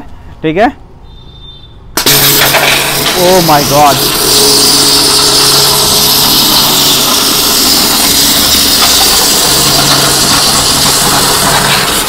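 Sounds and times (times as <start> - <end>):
motor low hum: 2.0 - 12.0
pressure washer jet hissing: 2.0 - 12.0.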